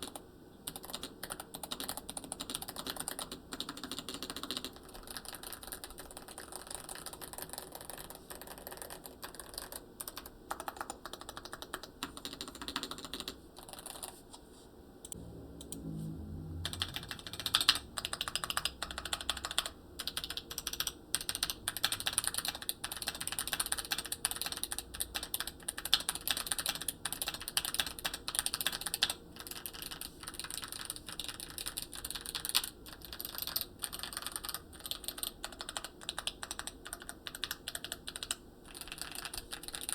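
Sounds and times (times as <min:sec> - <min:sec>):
mechanical keyboard typing: 0:00.0 - 0:14.2, 0:16.6 - 0:39.9.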